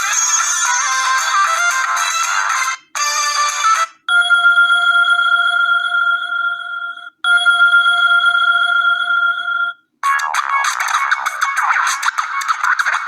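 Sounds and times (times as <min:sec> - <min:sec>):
busy ringtone: 0:00.0 - 0:11.7
steady electronic ringtone: 0:00.1 - 0:12.6.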